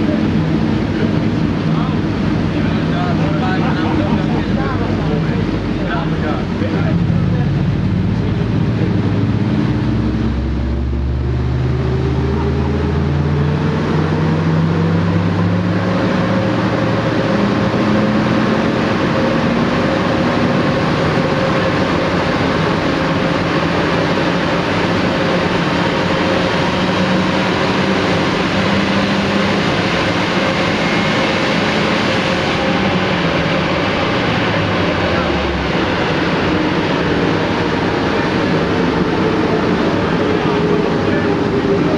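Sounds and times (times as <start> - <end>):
car engine running hard: 0.0 - 41.9
loud steady rush: 0.0 - 41.9.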